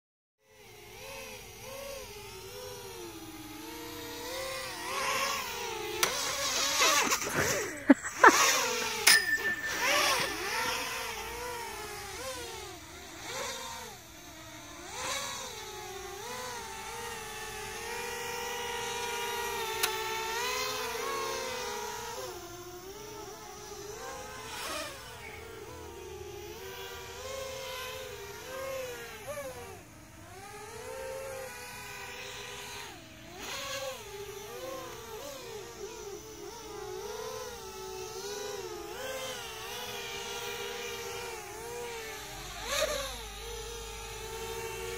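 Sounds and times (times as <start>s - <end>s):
quadcopter motors whining: 0.4s - 44.9s.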